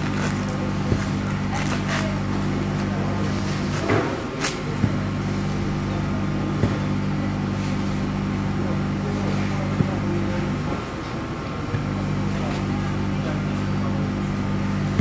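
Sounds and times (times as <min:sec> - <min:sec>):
workshop machinery humming: 0:00.0 - 0:15.0.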